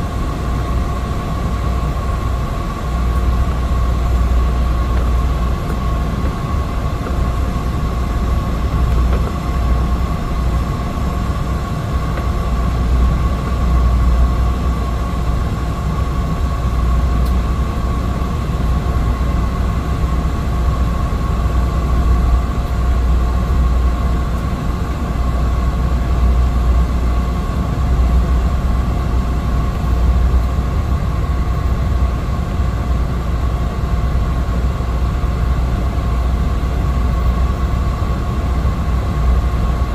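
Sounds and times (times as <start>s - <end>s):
constant engine whine: 0.0s - 39.9s
turboprop engine drone: 0.0s - 39.9s.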